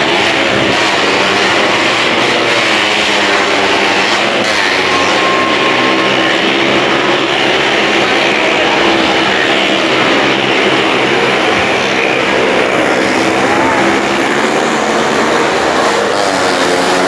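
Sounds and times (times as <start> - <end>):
car and motorcycle engines revving: 0.0 - 17.0.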